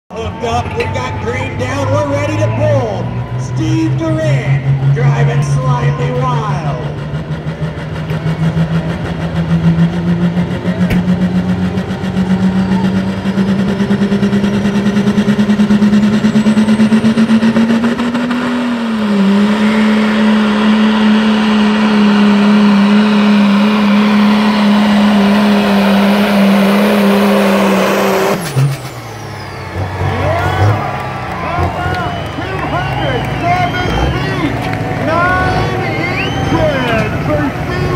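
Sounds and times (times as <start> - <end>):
diesel truck engine under load: 0.1 - 37.9.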